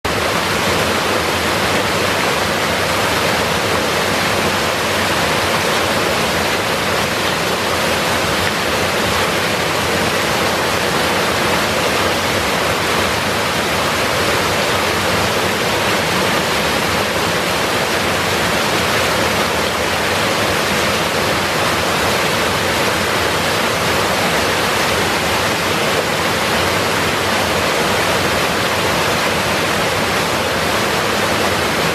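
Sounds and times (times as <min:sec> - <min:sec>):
river water rushing: 0:00.1 - 0:31.9.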